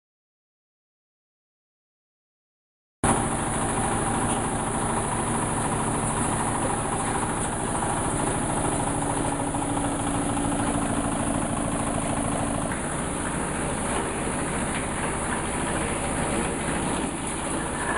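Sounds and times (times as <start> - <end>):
wood crusher machine running: 3.0 - 17.9.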